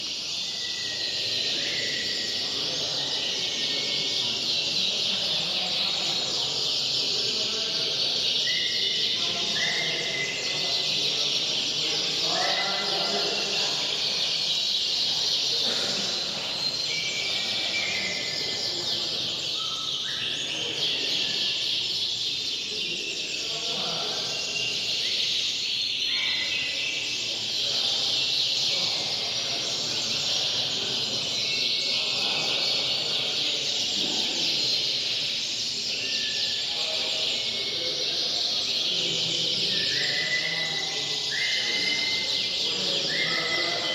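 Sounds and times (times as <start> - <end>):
canaries singing: 0.0 - 43.9.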